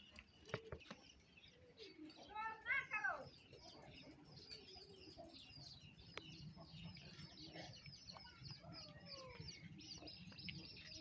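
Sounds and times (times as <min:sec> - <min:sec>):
chickens chirping and clucking: 0:00.0 - 0:11.0.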